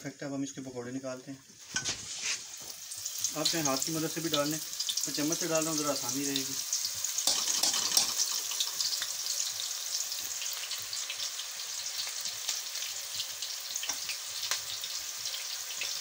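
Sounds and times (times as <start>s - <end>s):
deep-frying sizzle with crackles: 0.0s - 16.0s.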